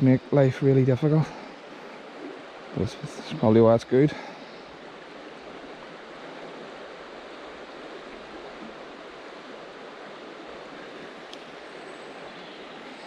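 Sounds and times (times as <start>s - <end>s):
river rushing in flood: 0.0s - 13.0s.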